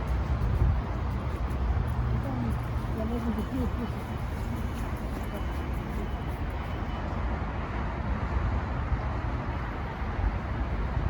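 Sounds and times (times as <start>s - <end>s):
highway traffic: 0.0s - 11.0s.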